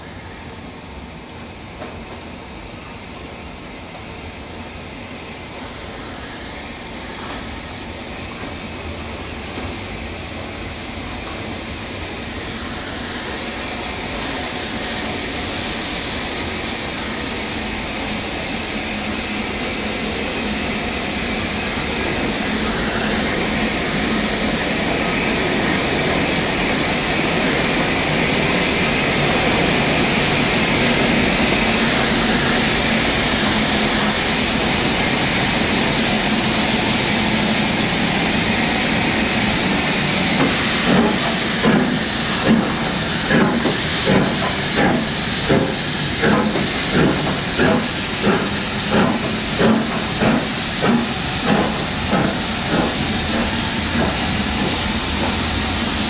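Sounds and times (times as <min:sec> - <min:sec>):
steam train arriving with hiss: 0:00.0 - 0:56.0.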